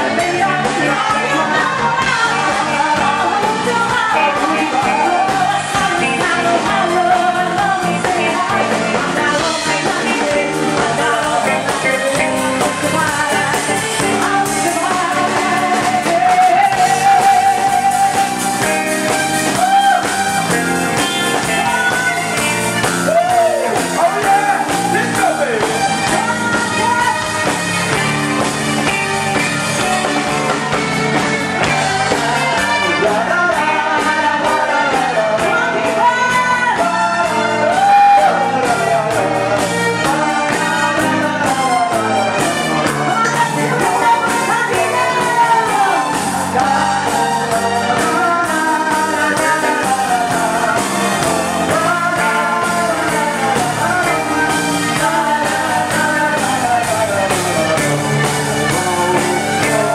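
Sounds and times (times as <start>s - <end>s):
drums: 0.0s - 59.9s
keyboard: 0.0s - 59.9s
person singing: 0.0s - 59.9s.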